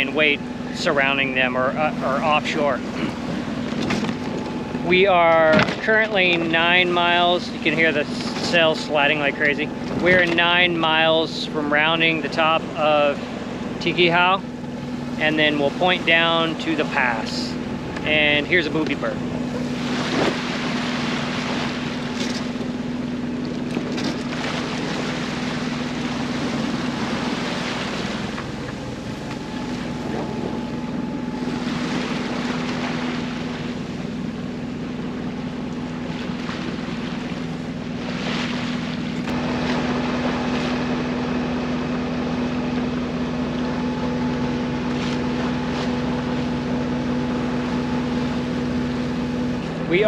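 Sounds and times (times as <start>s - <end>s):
boat engine running: 0.0s - 50.0s
water washing past hull: 0.0s - 50.0s.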